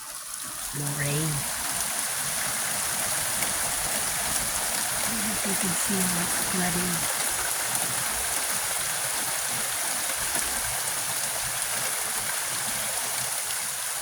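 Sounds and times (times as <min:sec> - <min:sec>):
heavy rain pouring: 0:00.0 - 0:14.0
running water rushing: 0:00.0 - 0:14.0.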